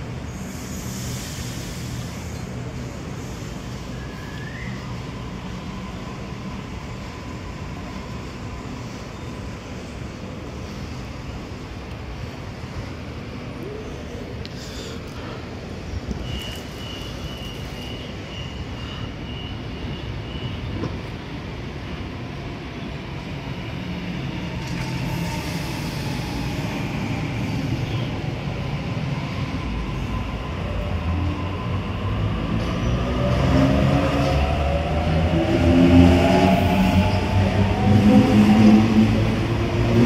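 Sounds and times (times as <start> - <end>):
electric train rumbling on rails: 0.0 - 40.0.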